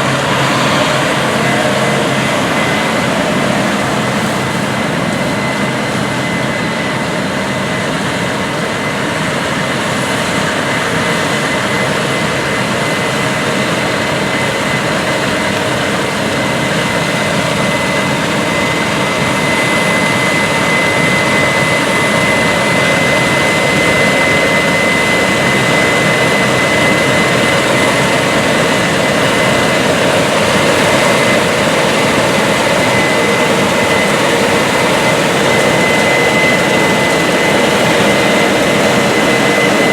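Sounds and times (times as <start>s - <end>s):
harvest machinery engine running: 0.0s - 39.9s
high machine whine: 0.0s - 39.9s.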